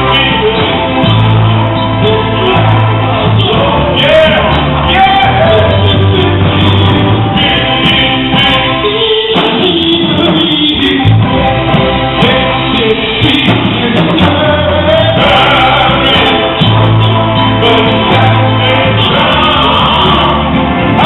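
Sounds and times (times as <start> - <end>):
bass keyboard and drums: 0.0 - 21.0
male group singing gospel: 0.0 - 21.0.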